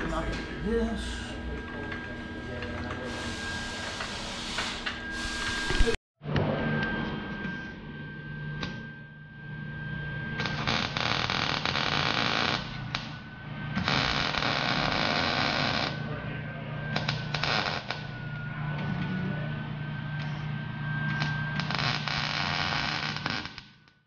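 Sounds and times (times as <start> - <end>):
steady hum with high whine: 0.0 - 24.0.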